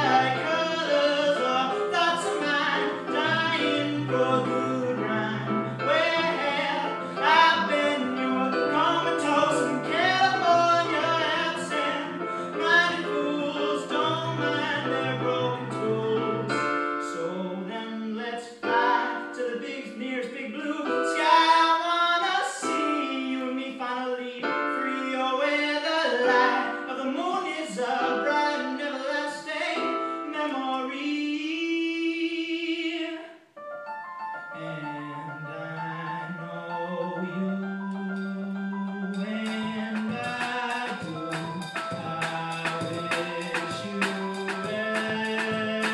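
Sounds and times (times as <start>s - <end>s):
person singing: 0.0s - 33.4s, 34.4s - 45.9s
keyboard accompaniment: 0.0s - 45.9s.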